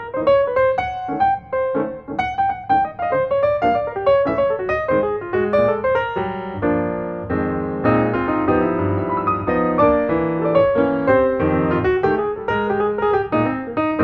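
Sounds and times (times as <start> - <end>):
fast piano music: 0.0 - 14.0.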